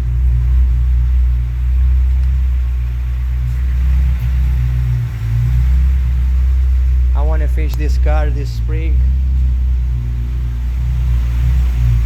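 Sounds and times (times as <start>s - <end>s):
engine idling with knock: 0.0s - 12.0s.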